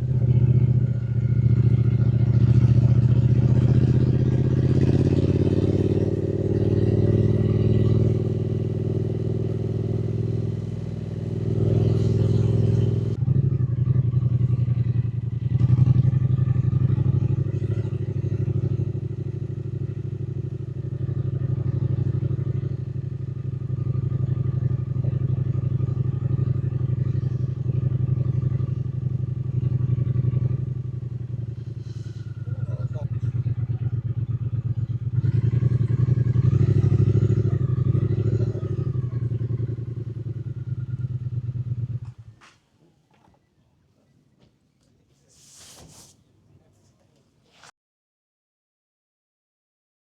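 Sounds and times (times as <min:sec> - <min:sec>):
motorcycle engine revving: 0:00.0 - 0:42.5.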